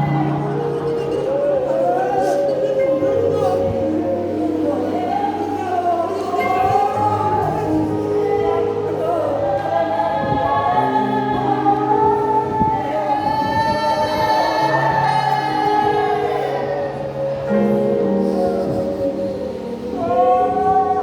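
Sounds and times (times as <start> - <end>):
gospel choir singing: 0.0 - 21.0.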